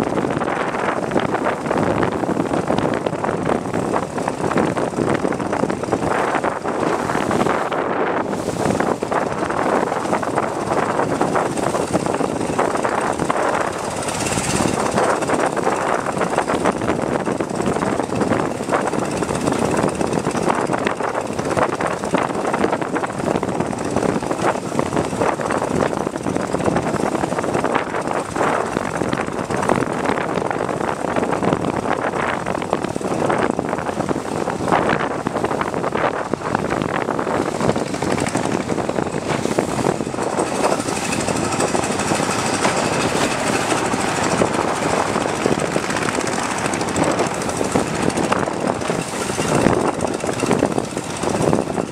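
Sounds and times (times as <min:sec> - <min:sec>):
motorboat engine running: 0:00.0 - 0:51.9
water rushing past hull: 0:00.0 - 0:51.9
wind on microphone: 0:00.0 - 0:51.9.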